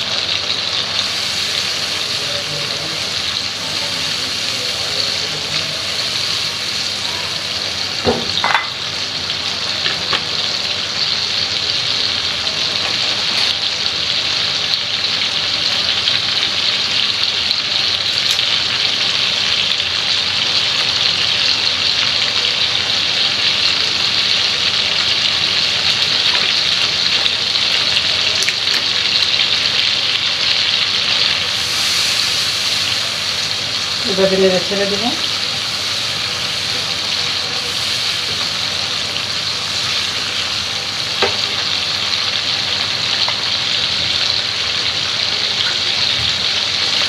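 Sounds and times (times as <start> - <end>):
frying pan sizzling: 0.0 - 47.0.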